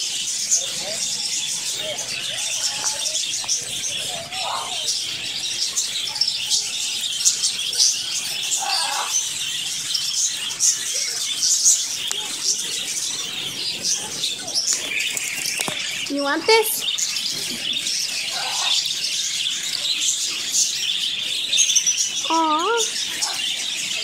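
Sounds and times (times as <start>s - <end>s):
budgerigars chattering: 0.0s - 24.0s.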